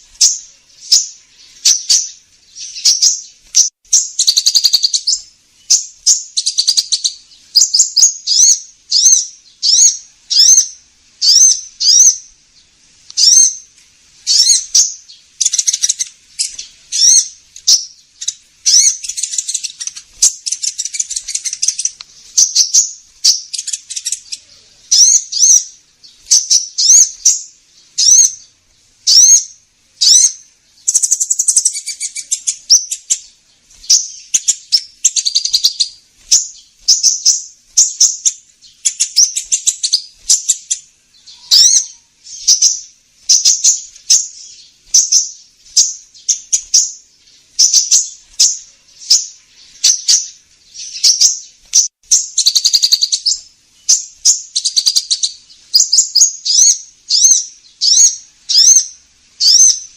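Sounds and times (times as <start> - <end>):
fast bird twittering: 0.0 - 12.3, 13.2 - 59.9
high sharp bird chirps: 0.0 - 59.9.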